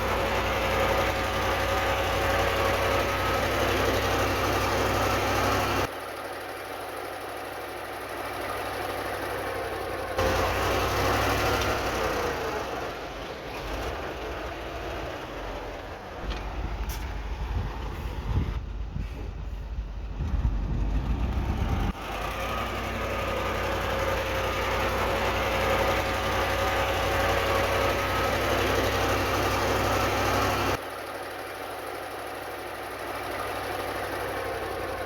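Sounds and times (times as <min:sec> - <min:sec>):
heavy machinery diesel engine: 0:00.0 - 0:35.0.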